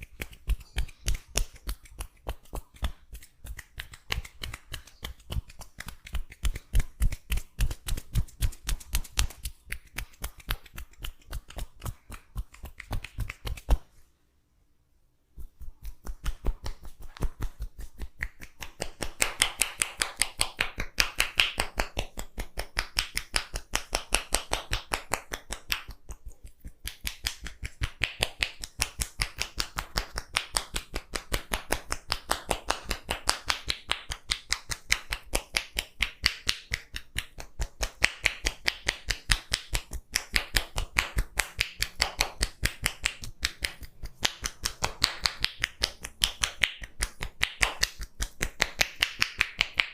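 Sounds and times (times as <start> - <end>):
hands tapping head in massage: 0.0 - 13.9, 15.4 - 49.9.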